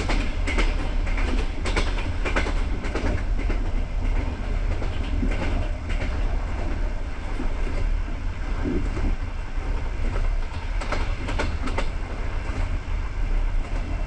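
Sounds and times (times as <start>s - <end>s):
wheels clicking over rail joints: 0.0s - 8.0s, 8.6s - 12.8s
train coach rumbling: 0.0s - 14.0s.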